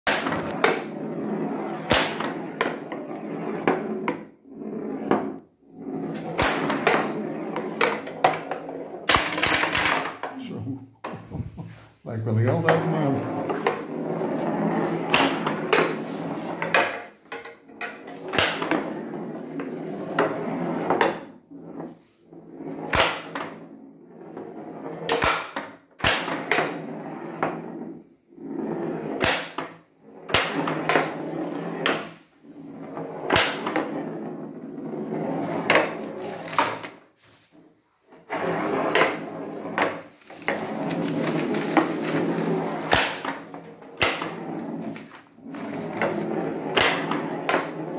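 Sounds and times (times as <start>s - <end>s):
pinball rolling on wood: 0.1s - 10.4s, 12.4s - 47.9s.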